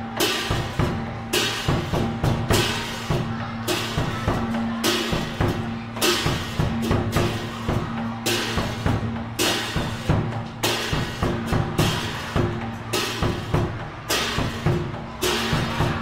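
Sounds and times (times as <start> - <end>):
bright percussive hit: 0.0 - 16.0
drum beats: 0.0 - 16.0.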